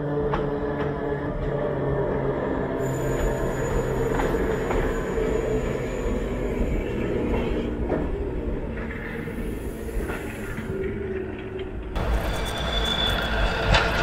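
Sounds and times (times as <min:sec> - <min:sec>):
electric railcar rumbling past: 0:00.0 - 0:14.0.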